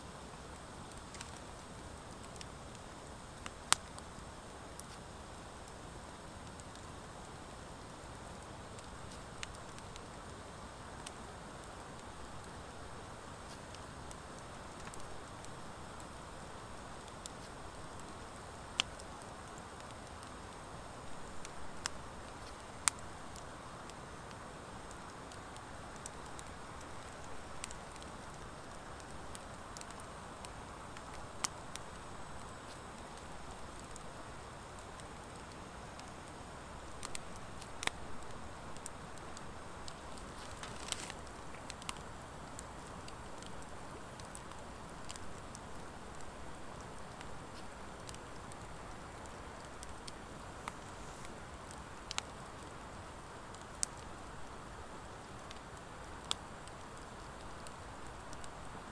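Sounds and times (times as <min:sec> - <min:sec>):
wood fire hissing: 0:00.0 - 0:58.9
wood fire crackling and popping: 0:00.2 - 0:58.9.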